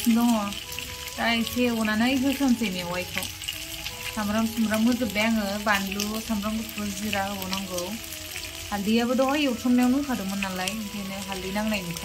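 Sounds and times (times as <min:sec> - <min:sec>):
background music melody: 0:00.0 - 0:12.0
food sizzling in a wok: 0:00.0 - 0:12.0.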